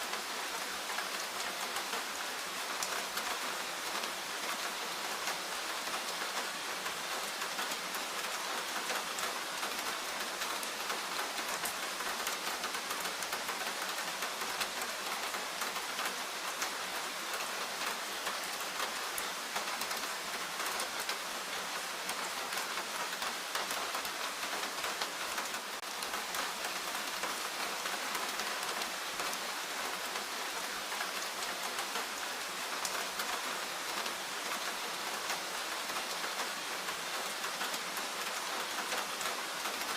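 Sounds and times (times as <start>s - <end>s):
rain pattering in forest: 0.0s - 39.9s.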